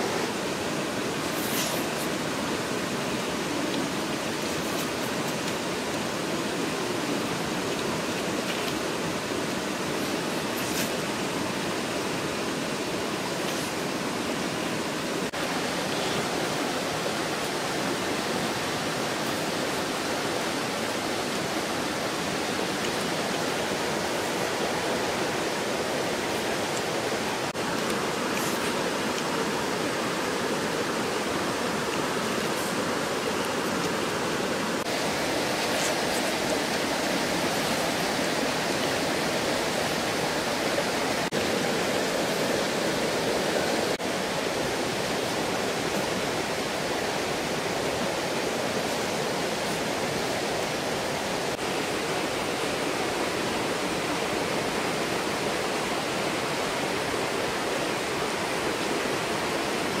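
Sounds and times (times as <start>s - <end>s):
stream flowing over rocks: 0.0s - 60.0s.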